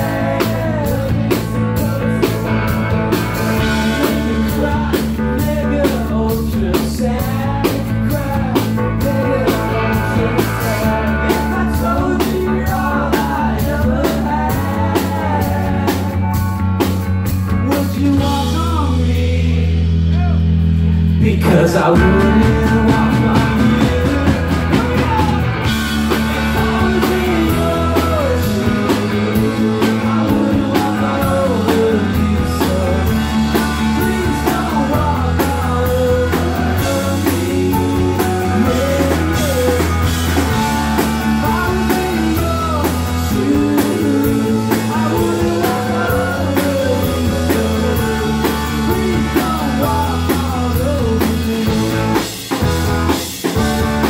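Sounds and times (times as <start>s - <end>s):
rock band playing loudly: 0.0s - 54.0s.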